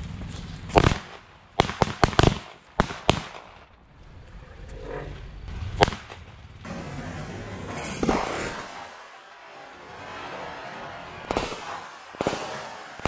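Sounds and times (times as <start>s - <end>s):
firecrackers banging: 0.1s - 4.1s, 5.4s - 13.0s.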